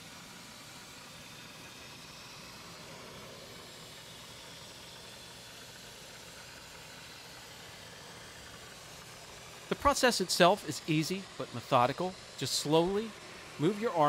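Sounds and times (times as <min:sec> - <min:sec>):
compressed air hissing: 0:00.0 - 0:14.0.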